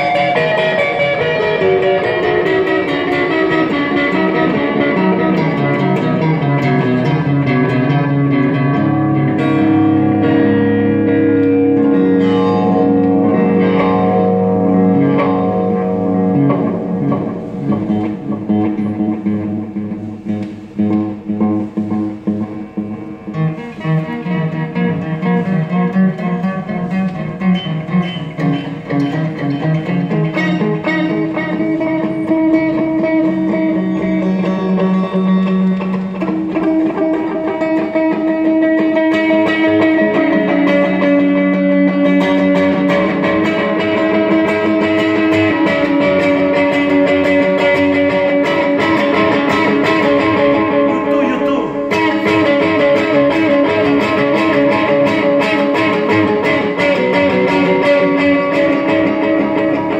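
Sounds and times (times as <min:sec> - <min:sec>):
electric guitar with delay: 0:00.0 - 0:59.9.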